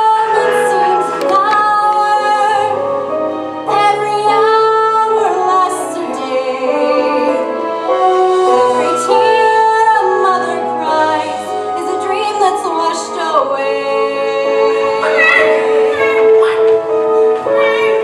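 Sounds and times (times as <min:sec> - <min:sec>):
musical accompaniment: 0:00.0 - 0:18.0.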